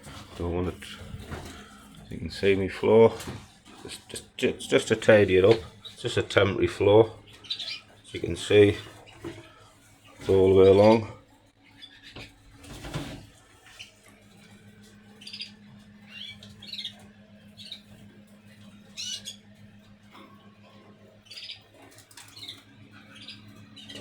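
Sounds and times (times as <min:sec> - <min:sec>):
canaries chirping: 0:00.0 - 0:24.0.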